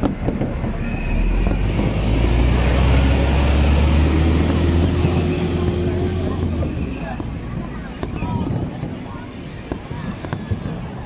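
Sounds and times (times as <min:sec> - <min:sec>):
distant fireworks booming: 0:00.0 - 0:11.0.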